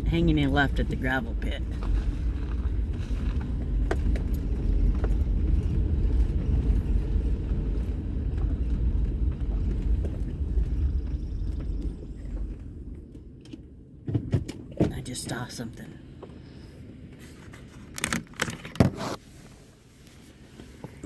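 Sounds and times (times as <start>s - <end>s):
vehicle engine and tyre rumble: 0.0s - 21.0s.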